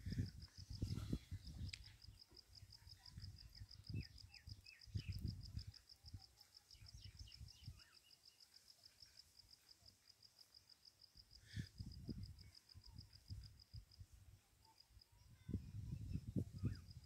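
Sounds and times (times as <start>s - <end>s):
insect chirping high-pitched: 0.0s - 17.0s
faint bird chirps: 0.1s - 17.0s.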